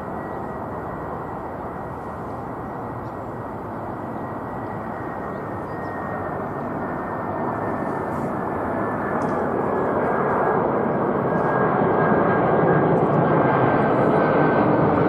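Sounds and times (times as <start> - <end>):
jet engines roaring with whine: 0.0 - 15.0.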